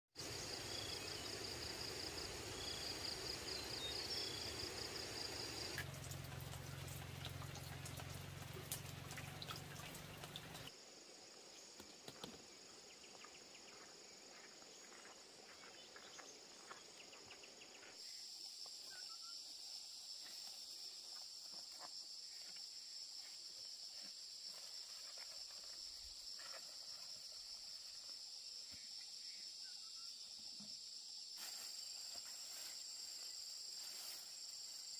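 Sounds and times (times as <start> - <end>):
insects chirring: 0.2 - 34.9.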